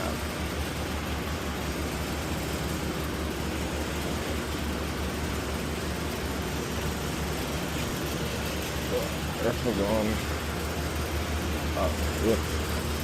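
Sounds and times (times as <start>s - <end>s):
blower air rush and hum: 0.0s - 13.0s.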